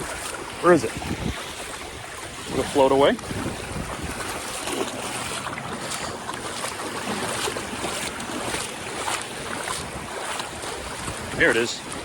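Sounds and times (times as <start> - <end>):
water lapping at shore: 0.0 - 12.0
wind buffeting microphone: 0.0 - 12.0.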